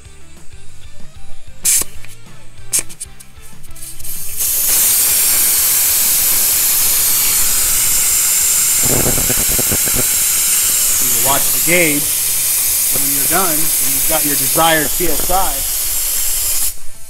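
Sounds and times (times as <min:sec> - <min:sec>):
air hissing out of tire: 0:01.6 - 0:02.1, 0:02.7 - 0:17.0.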